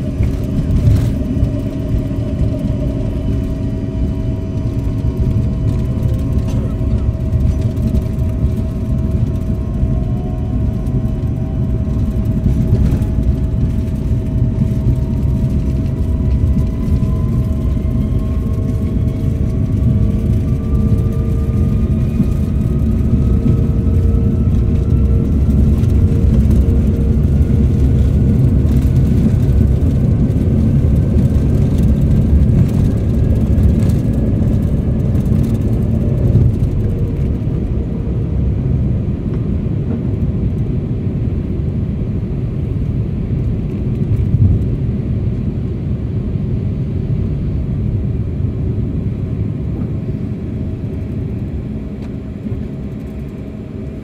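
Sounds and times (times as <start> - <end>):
engine whine rising in pitch: 0.0 - 54.0
jet engine low rumble: 0.0 - 54.0.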